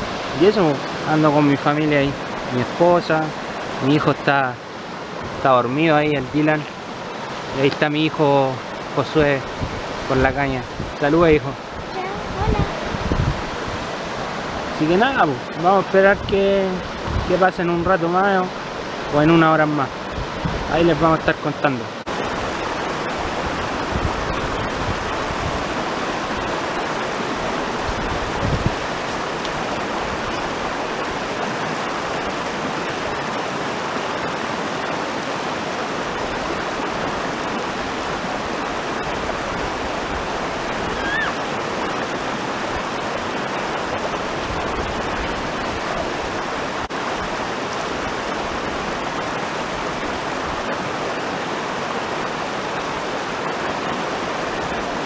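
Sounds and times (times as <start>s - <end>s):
river water over rocks: 0.0s - 55.0s.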